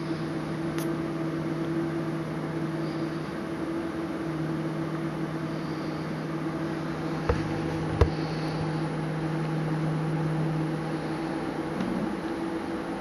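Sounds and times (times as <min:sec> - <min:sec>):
printer mechanical hum: 0:00.0 - 0:13.0.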